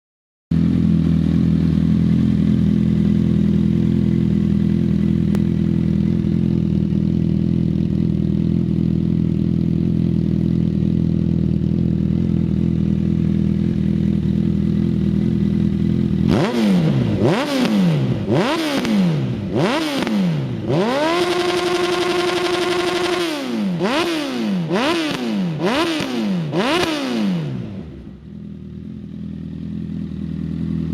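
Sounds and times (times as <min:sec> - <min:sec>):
motorcycle engine idling and revving: 0:00.5 - 0:30.9.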